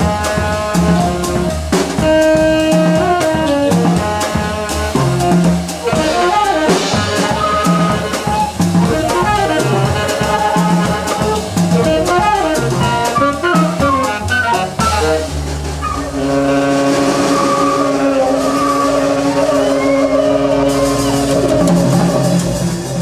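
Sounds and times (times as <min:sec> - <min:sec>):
cymbal and drum strokes: 0:00.0 - 0:23.0
flute: 0:00.0 - 0:23.0
jazz band playing: 0:00.0 - 0:23.0
saxophone: 0:00.0 - 0:23.0.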